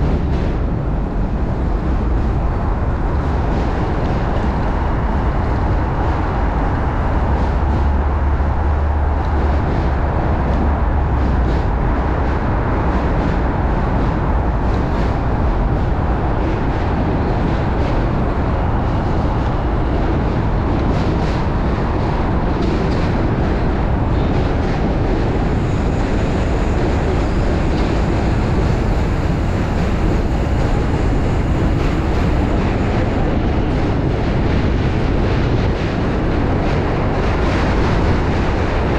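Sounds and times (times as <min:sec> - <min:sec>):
traffic: 0:00.0 - 0:38.9
wind buffeting microphone: 0:00.0 - 0:38.9.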